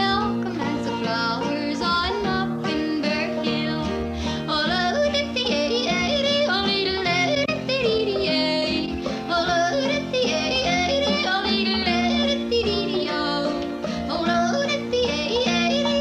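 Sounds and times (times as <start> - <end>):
acoustic guitars and banjo playing: 0.0 - 16.0
woman singing yodel-like melody: 0.0 - 16.0.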